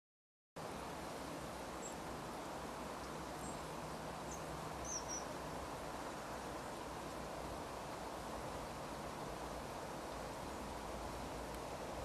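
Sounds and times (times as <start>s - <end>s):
distant small birds chirping: 0.6s - 12.0s
outdoor background hiss: 0.6s - 12.0s.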